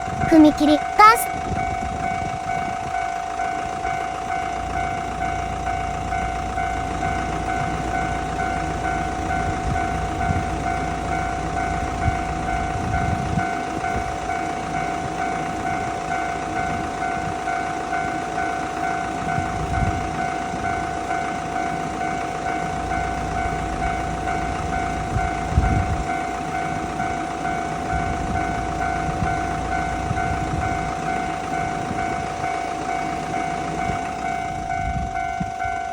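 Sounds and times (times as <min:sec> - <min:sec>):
railroad crossing alarm ringing: 0:01.7 - 0:35.9.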